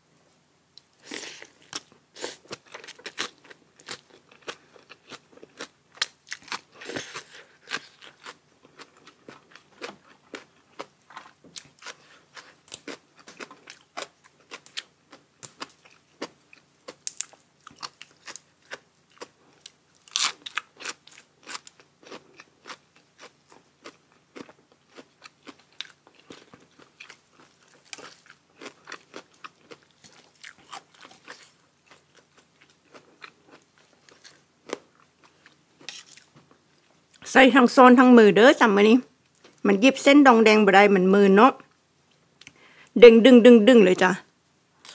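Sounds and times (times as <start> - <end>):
crunching and chewing: 0.8 - 37.2.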